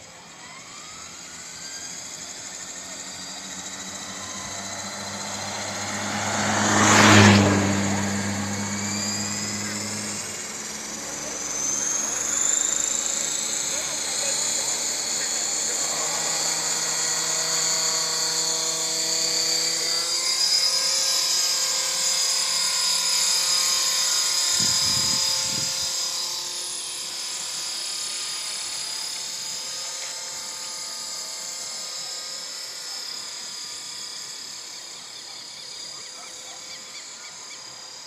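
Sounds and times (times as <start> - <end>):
model helicopter rotor whining: 0.0 - 38.0.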